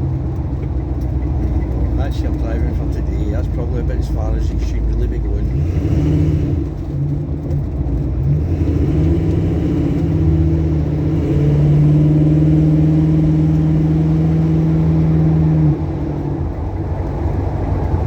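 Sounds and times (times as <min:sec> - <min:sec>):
car engine pulling: 0:00.0 - 0:18.0.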